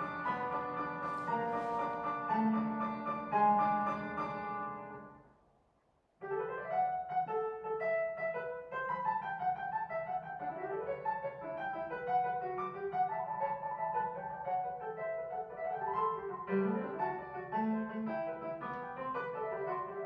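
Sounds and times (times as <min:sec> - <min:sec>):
piano music: 0:00.0 - 0:05.3, 0:06.2 - 0:20.0.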